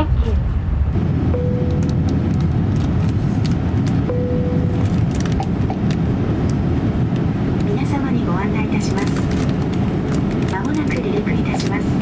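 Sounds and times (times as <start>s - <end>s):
faint steady hum: 0.0s - 12.0s
low cabin rumble: 0.0s - 12.0s.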